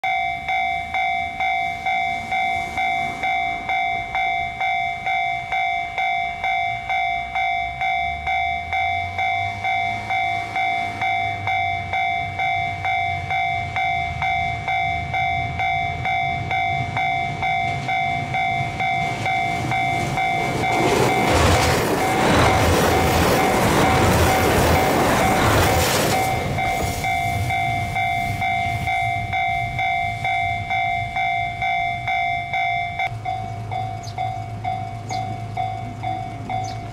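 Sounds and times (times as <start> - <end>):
level crossing warning bell: 0.0 - 36.9
train rumble and wheel noise: 0.0 - 36.9.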